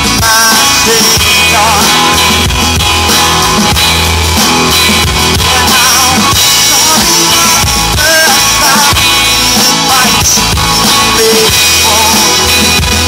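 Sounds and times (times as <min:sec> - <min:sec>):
drum kit beat: 0:00.0 - 0:13.0
electric guitars: 0:00.0 - 0:13.0.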